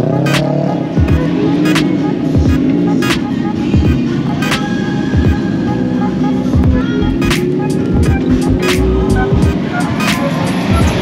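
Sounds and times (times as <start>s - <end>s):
music with heavy beat: 0.0s - 11.0s.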